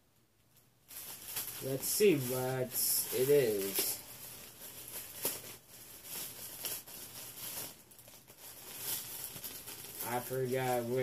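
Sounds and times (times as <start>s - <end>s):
packaging rustling and crinkling: 0.6s - 11.0s.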